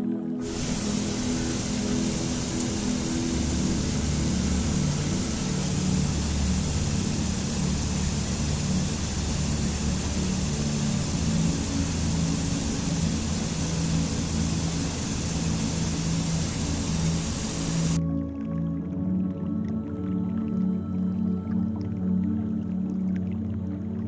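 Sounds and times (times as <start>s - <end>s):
ambient music drone: 0.0s - 24.0s
rushing water: 0.4s - 24.0s.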